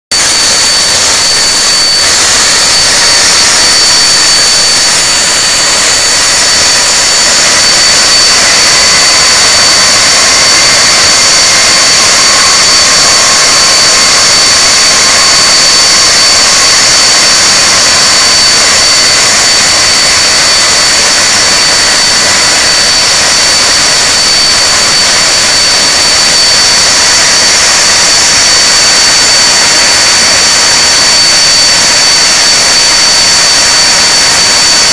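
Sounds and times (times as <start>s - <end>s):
high compressor whine: 0.1s - 34.9s
jet engine rush: 0.1s - 34.9s.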